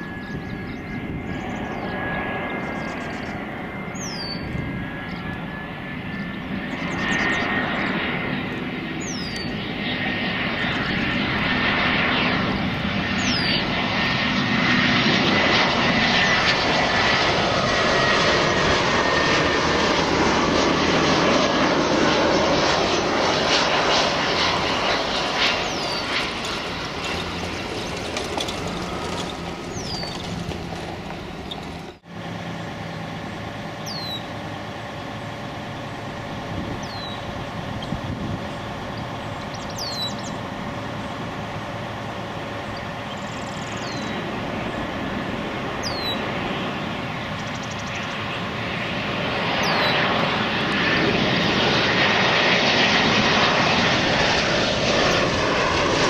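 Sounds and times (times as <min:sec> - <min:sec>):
jet airliner landing: 0:00.0 - 0:56.0
jet engines whining: 0:00.0 - 0:56.0.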